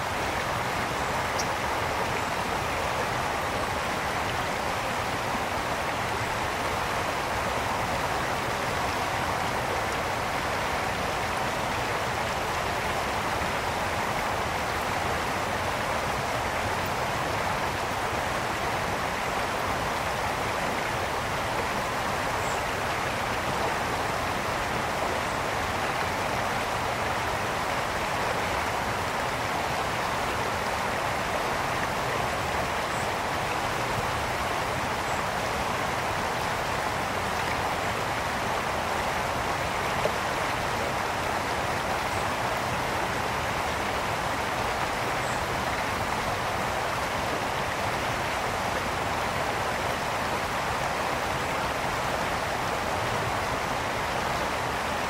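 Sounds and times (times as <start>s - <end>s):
brook water flowing over stones: 0.0s - 55.0s.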